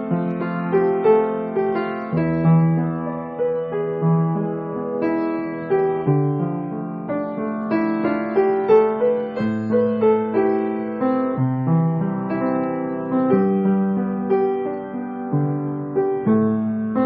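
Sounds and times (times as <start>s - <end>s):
piano piece: 0.0s - 17.0s.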